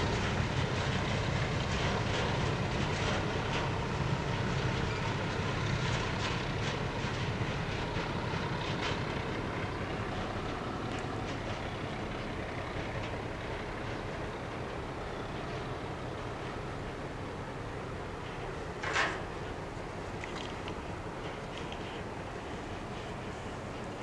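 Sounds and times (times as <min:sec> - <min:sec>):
train low rumble: 0:00.0 - 0:24.0
train wheels clicking over rail joints: 0:00.0 - 0:24.0.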